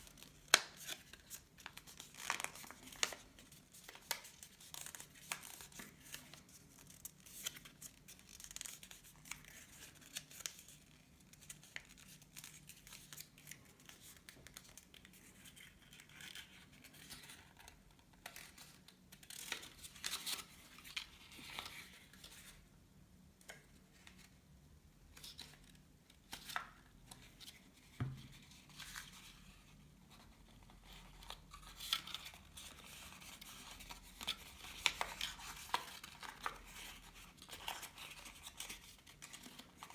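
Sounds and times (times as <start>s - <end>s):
paper rustling and crinkling: 0.0s - 22.6s, 25.1s - 39.9s.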